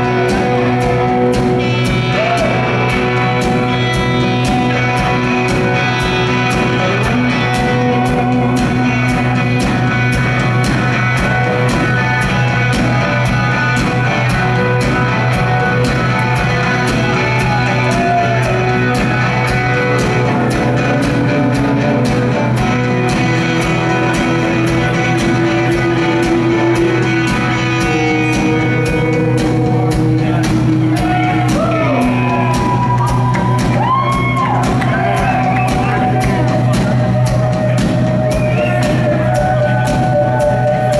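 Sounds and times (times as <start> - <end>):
drum kit beat: 0.0 - 40.9
electric guitars and bass: 0.0 - 40.9.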